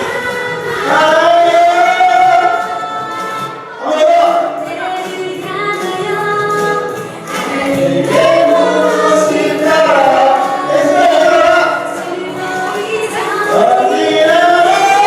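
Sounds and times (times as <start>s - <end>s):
group singing: 0.0s - 15.0s
musical backing: 0.0s - 15.0s.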